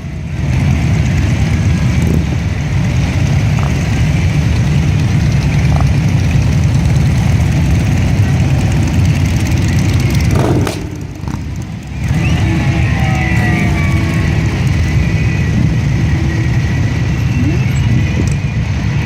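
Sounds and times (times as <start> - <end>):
motorcycle engines rumbling: 0.0 - 19.0.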